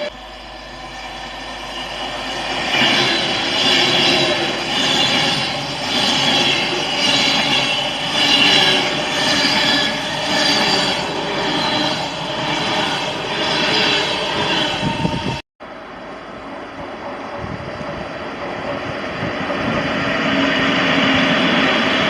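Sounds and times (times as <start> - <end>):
train rail noise: 0.0 - 22.0.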